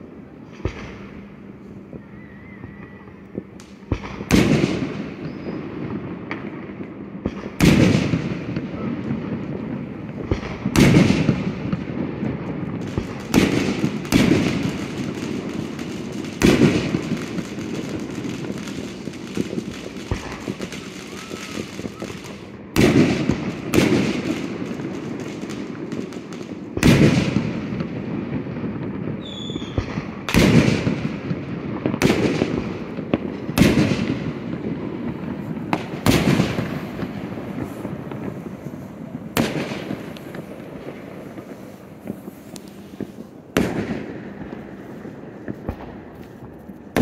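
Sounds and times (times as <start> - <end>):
firework booms: 0.4 - 47.0.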